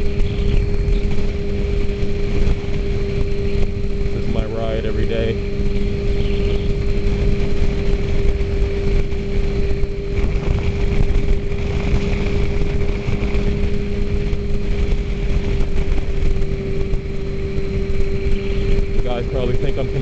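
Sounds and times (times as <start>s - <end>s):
motorcycle engine cruising: 0.0s - 20.0s
wind buffeting microphone: 0.0s - 20.0s.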